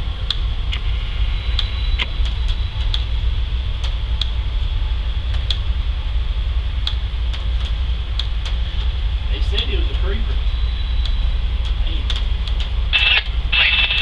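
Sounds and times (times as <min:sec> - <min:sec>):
high-pitched hum: 0:00.0 - 0:14.0
low engine rumble: 0:00.0 - 0:14.0.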